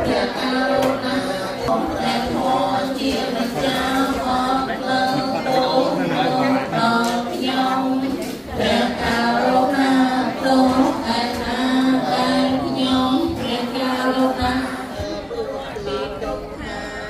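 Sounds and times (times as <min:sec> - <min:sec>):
group chanting in unison: 0:00.0 - 0:17.0.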